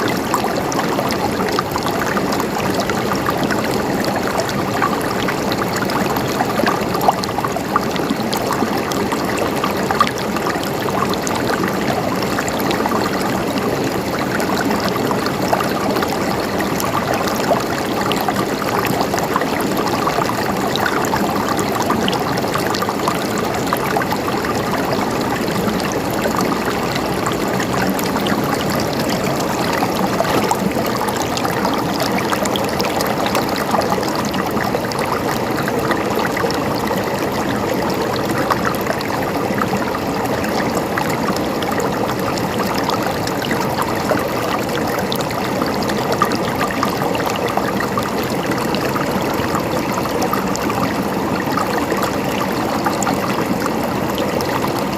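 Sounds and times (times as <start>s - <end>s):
river flowing over stones: 0.0s - 54.9s
small water splashes: 0.0s - 54.9s.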